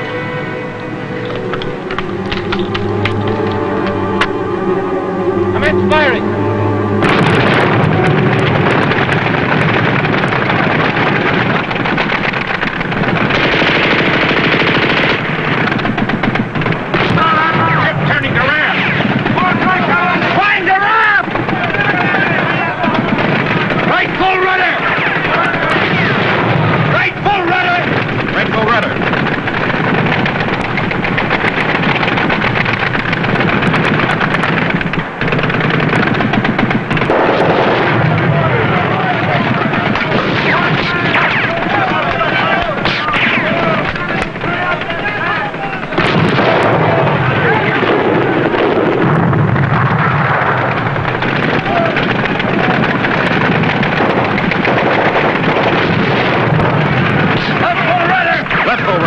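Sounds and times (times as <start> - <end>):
rapid machine-gun fire: 7.0 - 59.0.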